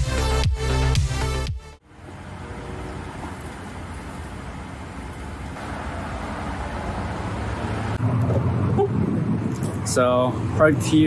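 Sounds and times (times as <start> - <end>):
cars passing on a road: 1.8 - 11.0.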